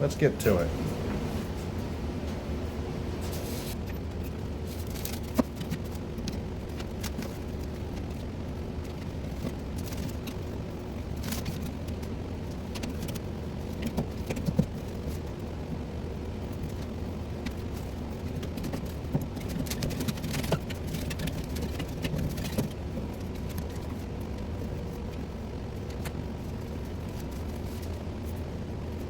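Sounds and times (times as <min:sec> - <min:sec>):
steady low hum: 0:00.0 - 0:29.0
insulation rustling and scraping: 0:00.1 - 0:15.3, 0:16.5 - 0:29.0.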